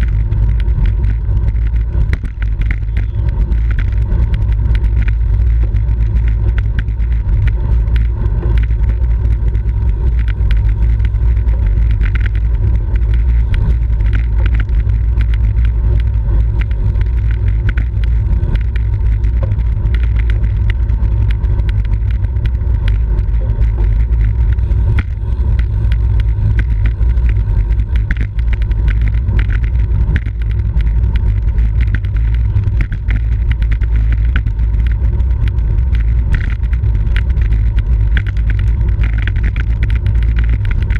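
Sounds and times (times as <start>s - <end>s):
road noise: 0.0s - 40.9s
wind buffeting microphone: 0.0s - 40.9s.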